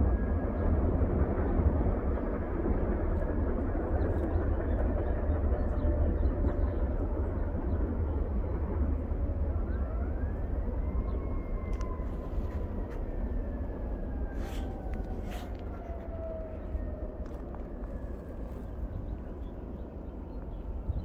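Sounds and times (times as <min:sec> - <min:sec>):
freight train rumbling: 0:00.0 - 0:21.0
wind buffeting microphone: 0:00.0 - 0:21.0.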